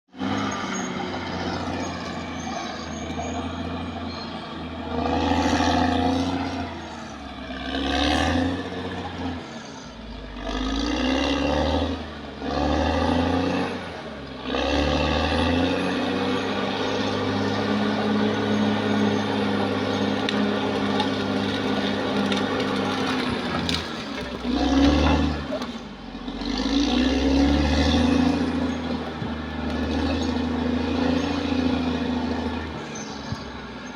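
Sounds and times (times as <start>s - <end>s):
bulldozer diesel engine revving: 0.1s - 33.9s.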